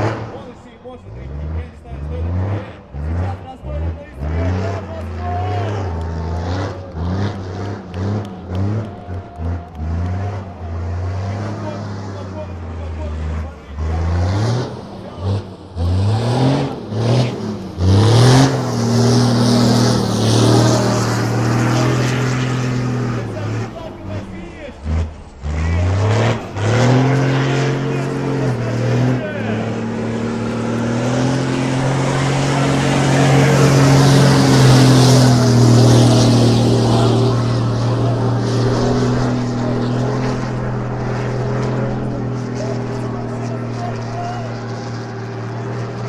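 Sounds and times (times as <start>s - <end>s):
truck diesel engine revving: 0.0s - 46.0s.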